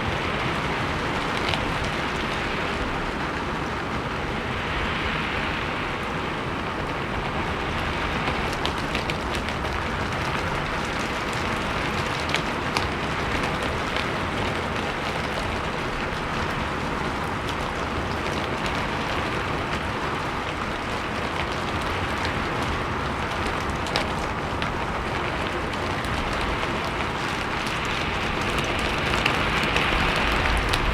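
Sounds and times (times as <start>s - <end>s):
rain on a roof: 0.0s - 30.9s.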